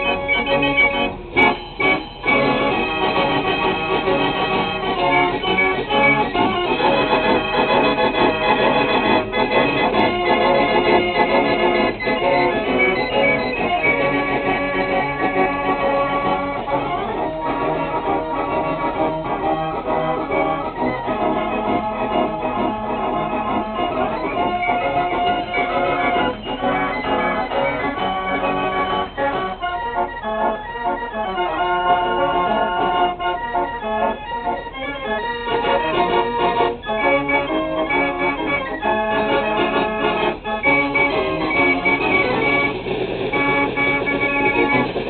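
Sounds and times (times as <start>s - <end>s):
fairground organ playing: 0.0s - 45.0s.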